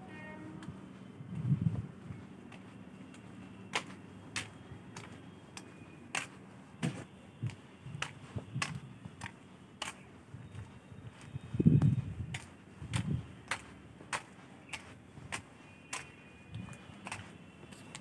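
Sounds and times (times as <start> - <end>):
footsteps on concrete: 0.5 - 18.0.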